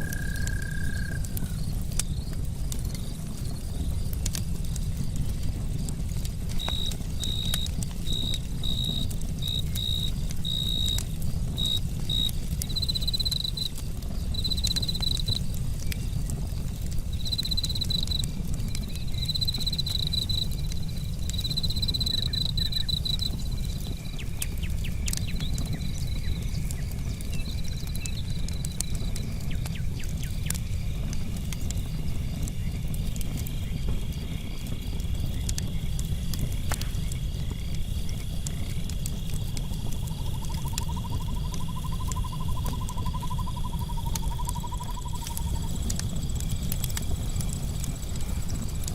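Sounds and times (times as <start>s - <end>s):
crickets chirping: 0.0s - 4.1s, 6.5s - 16.3s, 17.1s - 48.9s
lower insect call: 0.0s - 5.9s, 6.5s - 48.9s
campfire crackling: 0.0s - 48.9s.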